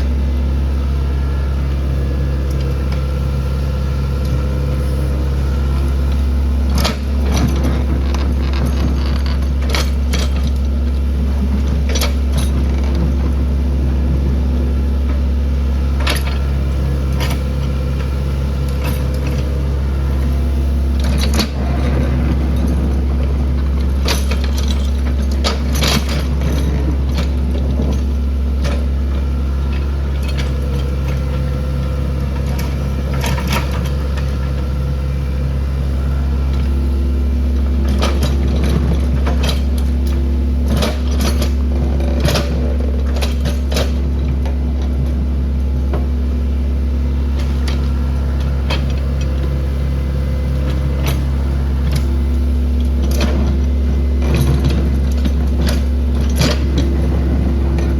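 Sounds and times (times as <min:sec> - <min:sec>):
excavator engine running: 0:00.0 - 0:57.9.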